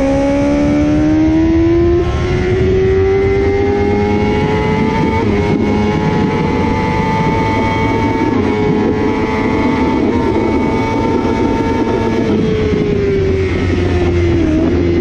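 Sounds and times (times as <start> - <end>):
motorcycle engine revving high: 0.0 - 15.0
wind noise: 0.0 - 15.0.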